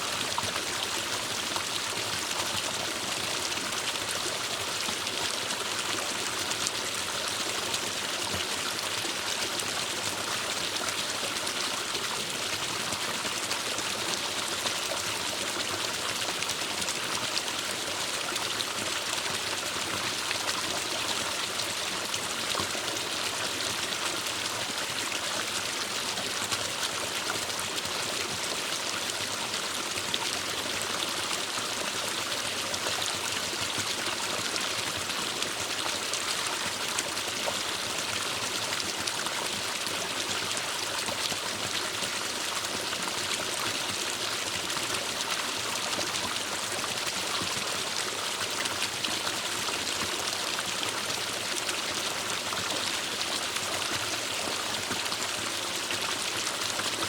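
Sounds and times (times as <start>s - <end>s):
stream water splashing over rocks: 0.0s - 57.0s.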